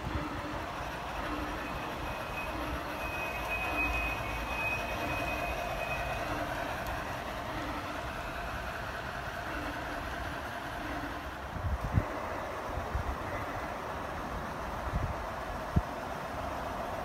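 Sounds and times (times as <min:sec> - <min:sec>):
model train wheels rumbling on rails: 0:00.0 - 0:17.0.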